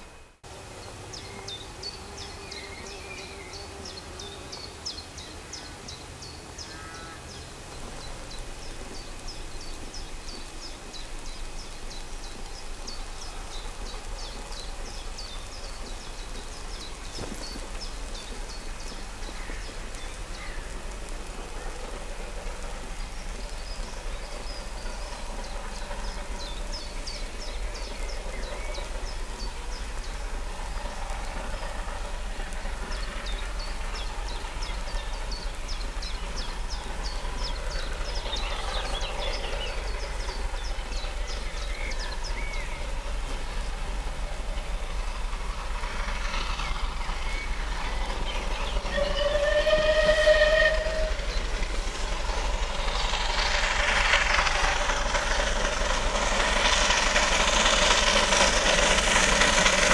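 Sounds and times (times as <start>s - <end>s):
distant steam locomotive rumble: 0.0s - 59.9s
small birds chirping: 0.8s - 49.2s.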